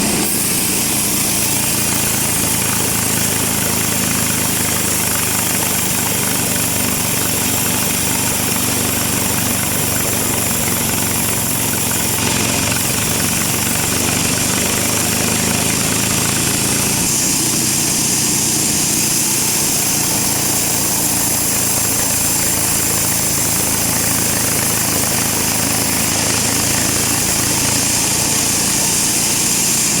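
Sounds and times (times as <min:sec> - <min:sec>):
low motor hum: 0:00.0 - 0:30.0
saw cutting through log: 0:00.0 - 0:30.0.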